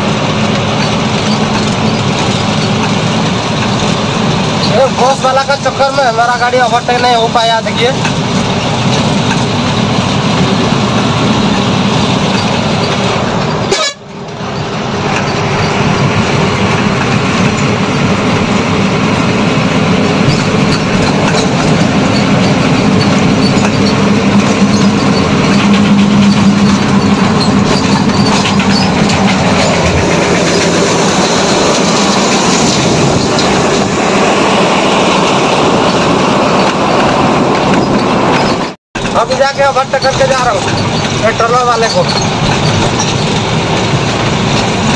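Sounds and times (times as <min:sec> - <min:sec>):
truck engine rumble in cab: 0:00.0 - 0:44.9.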